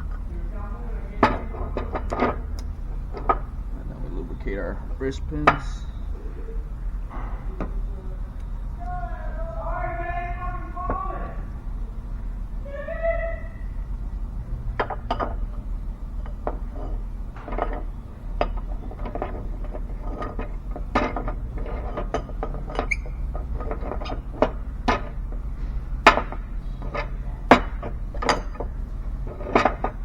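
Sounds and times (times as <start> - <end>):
steel engine parts clinking: 0.0 - 12.6, 13.6 - 30.0
steady low hum: 0.0 - 30.0.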